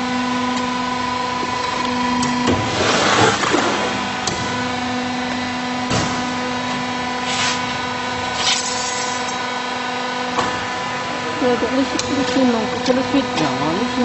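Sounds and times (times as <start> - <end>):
block machine electric hum: 0.0 - 14.0.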